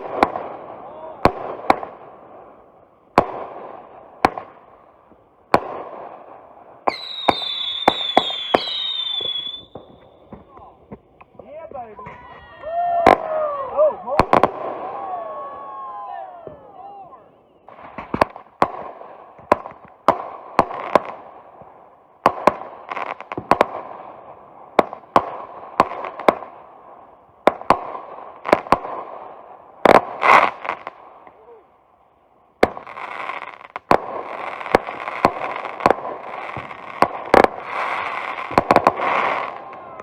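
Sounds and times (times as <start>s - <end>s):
fireworks bangs: 0.0s - 31.6s, 32.5s - 40.0s
fireworks crackling: 0.0s - 40.0s.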